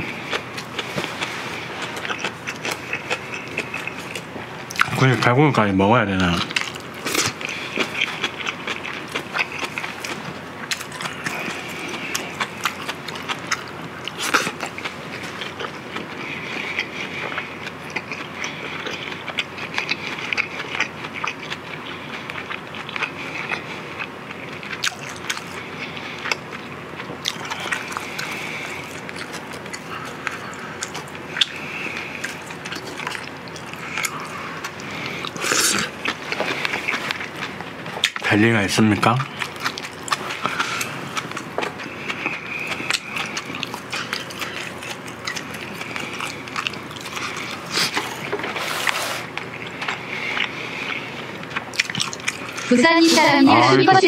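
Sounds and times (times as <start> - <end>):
person chewing food: 0.0 - 5.6, 6.2 - 38.3, 39.0 - 53.6.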